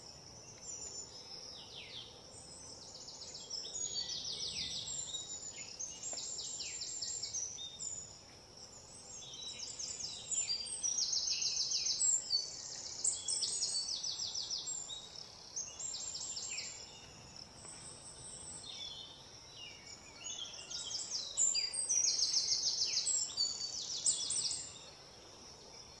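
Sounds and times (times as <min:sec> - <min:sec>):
small birds chirping and trilling: 0:00.0 - 0:26.0.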